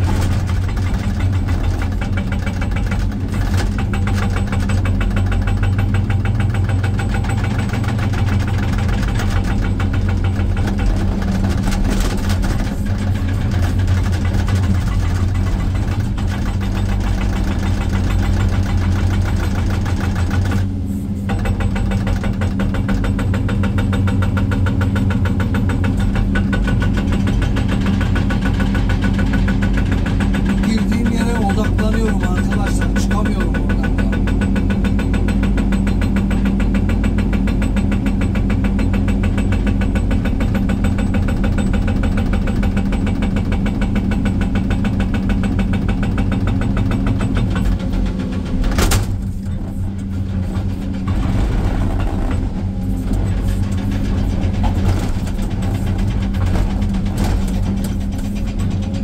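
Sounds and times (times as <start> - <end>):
diesel engine running under load: 0.0 - 59.0
hydraulic breaker hammering rock: 0.0 - 59.0.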